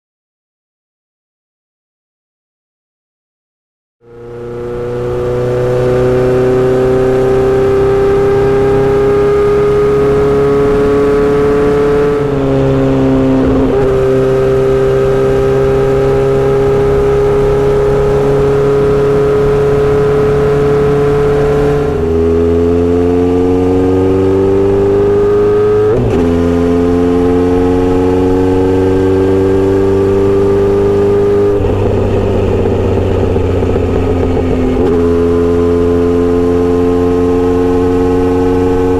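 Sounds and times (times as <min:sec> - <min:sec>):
motorcycle engine revving through gears: 0:04.0 - 0:38.9.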